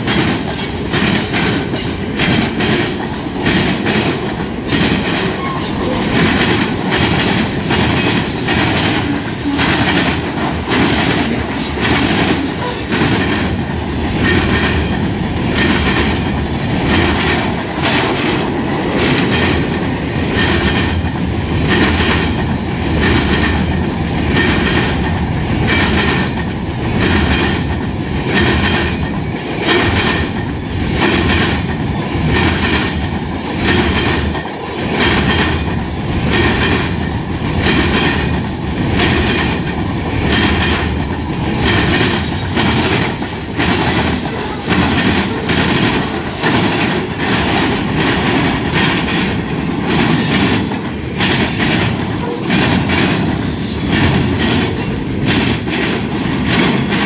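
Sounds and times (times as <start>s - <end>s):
steel wheels rumbling on rail: 0.0s - 57.0s
wheels clickety-clack over rail joints: 0.0s - 57.0s.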